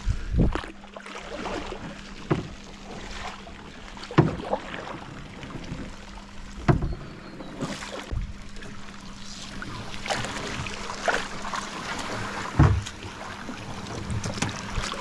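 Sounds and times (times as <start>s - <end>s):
steady low hum: 0.0s - 15.0s
lapping water: 0.4s - 15.0s
paddle strokes: 0.4s - 15.0s
paddle knocking against hull: 1.3s - 8.2s, 9.7s - 15.0s.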